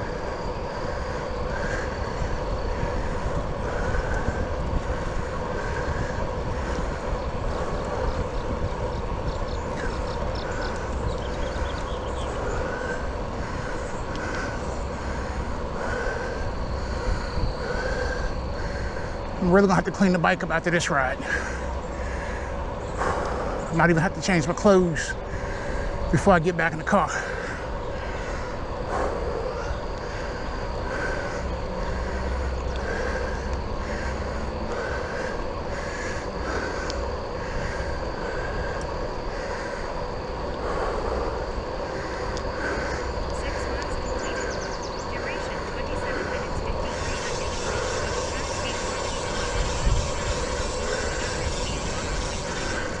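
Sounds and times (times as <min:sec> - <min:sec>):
bicycle tyre noise: 0:00.0 - 0:43.3, 0:44.1 - 0:53.0
wind buffeting microphone: 0:00.0 - 0:53.0.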